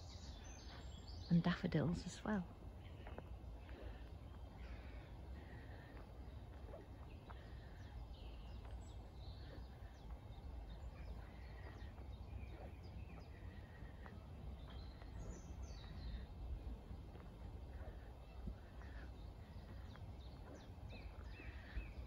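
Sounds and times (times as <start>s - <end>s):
small birds singing and chirping: 0.0s - 22.0s
steady low rumble: 0.0s - 22.0s.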